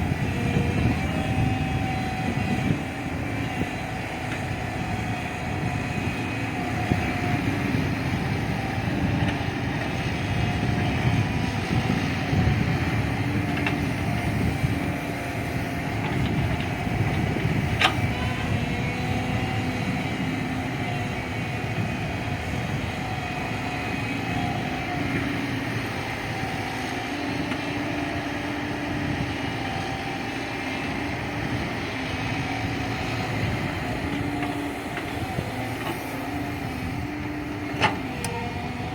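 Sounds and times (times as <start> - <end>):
backhoe diesel engine working: 0.0 - 38.9.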